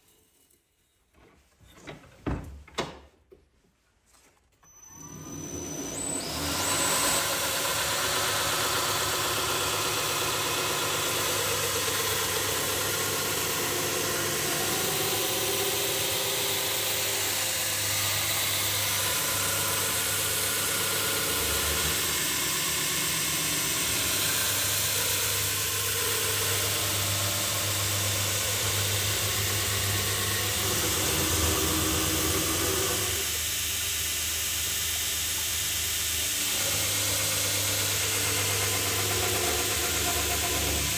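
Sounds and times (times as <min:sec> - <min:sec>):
motor humming: 0:04.9 - 0:40.9
belt grinder grinding steel: 0:05.3 - 0:33.8, 0:35.4 - 0:40.9.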